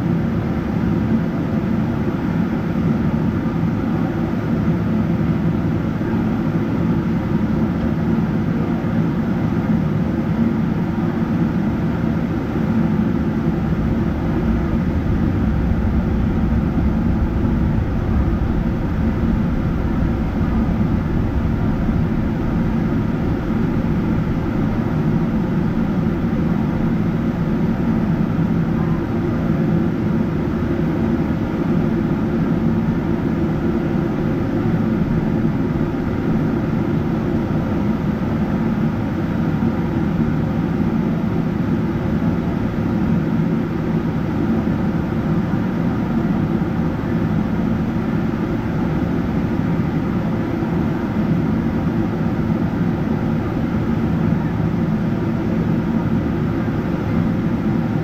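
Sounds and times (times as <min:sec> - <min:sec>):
jet engine drone inside cabin: 0:00.0 - 0:58.0.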